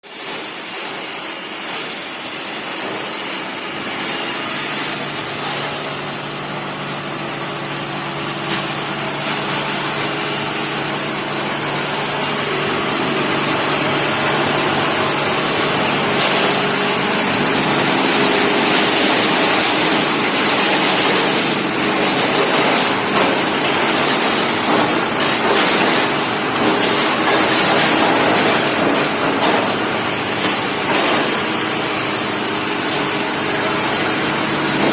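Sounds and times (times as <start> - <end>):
ice machine humming: 0.0 - 34.9.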